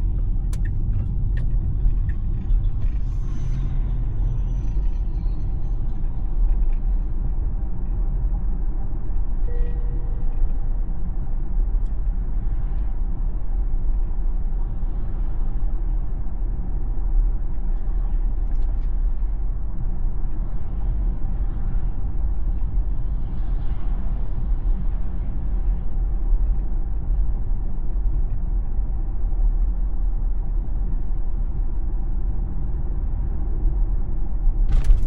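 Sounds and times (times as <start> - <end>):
road and tyre rumble: 0.0 - 35.0.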